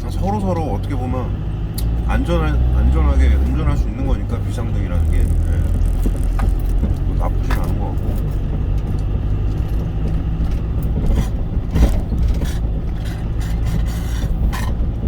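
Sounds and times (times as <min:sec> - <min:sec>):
road rumble: 0:00.0 - 0:15.0
truck engine running: 0:00.0 - 0:15.0.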